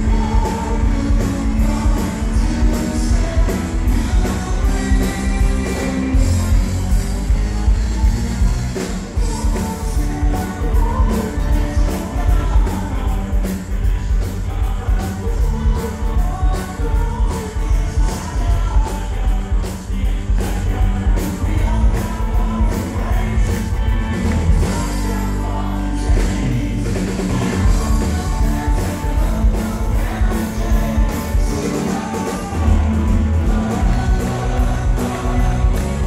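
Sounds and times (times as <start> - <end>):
steady drumbeat: 0.0 - 25.0, 26.1 - 36.0
heavy bass: 0.0 - 36.0
live rock band playing: 0.0 - 36.0
person singing: 0.0 - 36.0.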